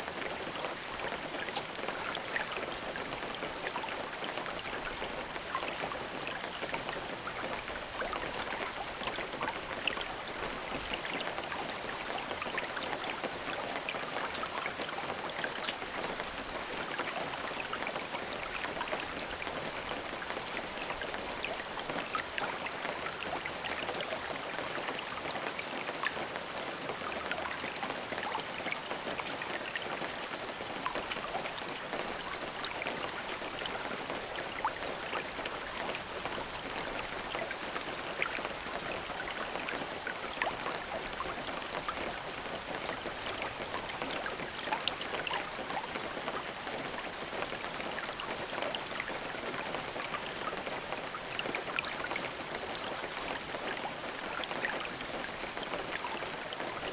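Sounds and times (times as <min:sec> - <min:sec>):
rain drops pattering: 0:00.0 - 0:56.9.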